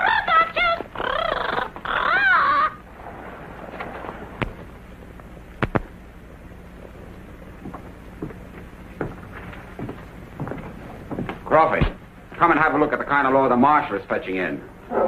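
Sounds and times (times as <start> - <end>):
old film soundtrack hiss: 0.0 - 15.0.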